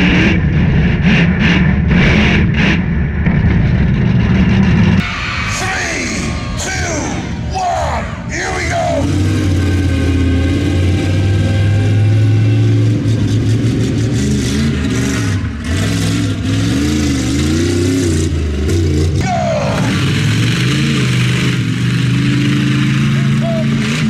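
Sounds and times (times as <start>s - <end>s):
large vehicle engine revving: 0.0s - 24.0s.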